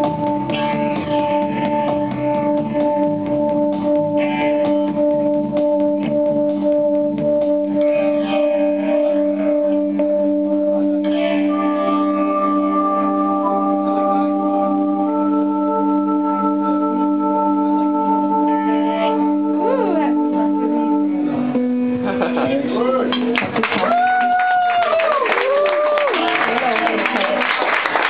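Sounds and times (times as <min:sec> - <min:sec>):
live band music: 0:00.0 - 0:24.1.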